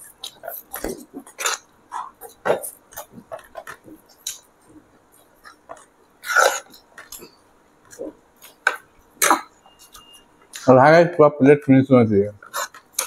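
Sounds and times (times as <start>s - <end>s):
mouth chewing: 0.0s - 10.7s, 12.4s - 13.0s.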